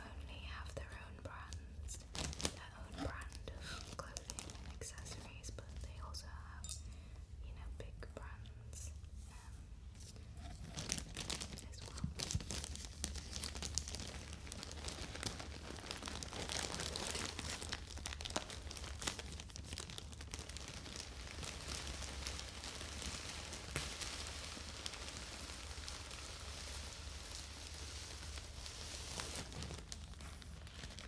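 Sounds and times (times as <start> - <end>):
plastic packaging crinkling: 1.3 - 5.9, 10.0 - 31.0.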